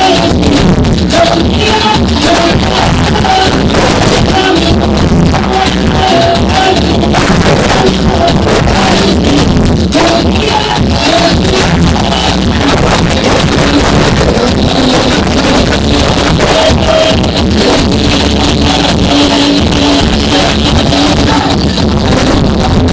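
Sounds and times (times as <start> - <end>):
distorted loud music with heavy bass: 0.0 - 22.9.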